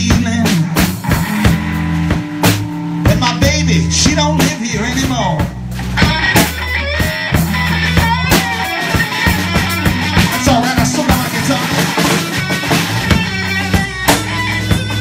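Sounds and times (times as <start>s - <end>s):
bass notes: 0.0s - 15.0s
drums: 0.0s - 15.0s
electric guitar: 0.0s - 15.0s.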